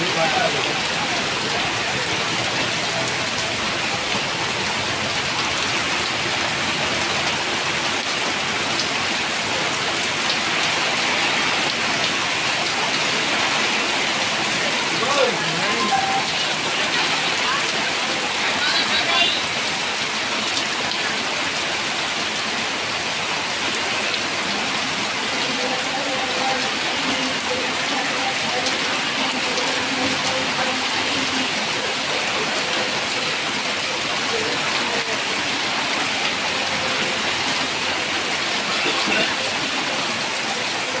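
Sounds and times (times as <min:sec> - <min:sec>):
heavy rain on pavement: 0:00.0 - 0:41.0.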